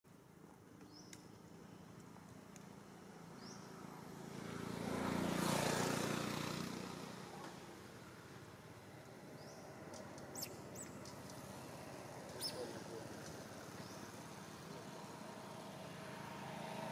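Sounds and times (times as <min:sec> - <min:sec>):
vehicle driving past: 0:02.8 - 0:16.9.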